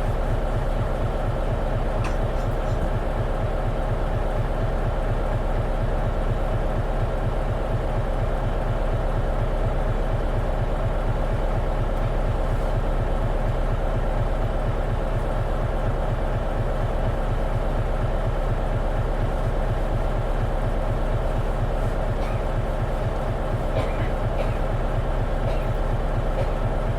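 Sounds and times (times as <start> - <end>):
bus diesel engine running: 0.0 - 26.9.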